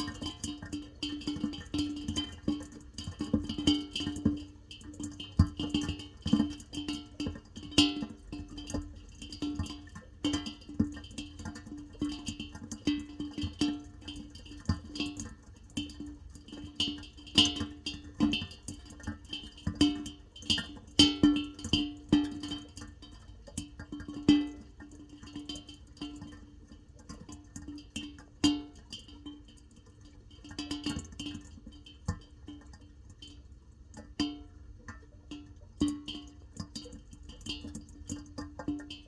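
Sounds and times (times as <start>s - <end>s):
water drops on resonant surface: 0.0s - 39.0s.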